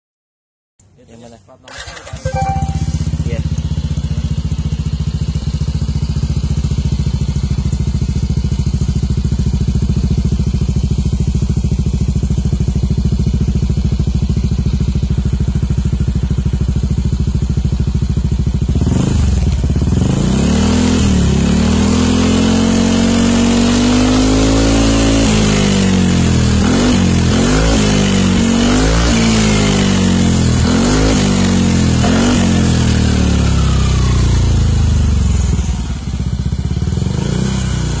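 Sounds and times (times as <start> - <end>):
scooter engine idling and revving: 1.7 - 38.0.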